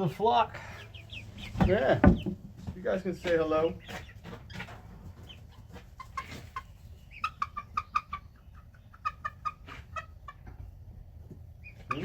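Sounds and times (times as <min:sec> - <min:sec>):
young chickens chirping and clucking: 0:00.0 - 0:12.0.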